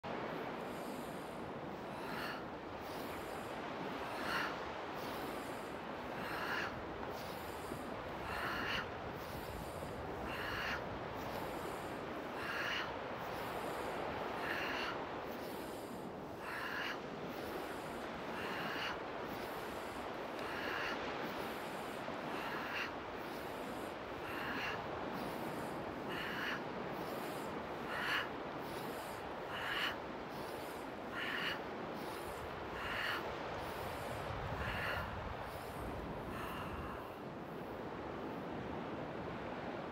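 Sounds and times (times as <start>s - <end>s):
surf and wind: 0.0s - 39.9s.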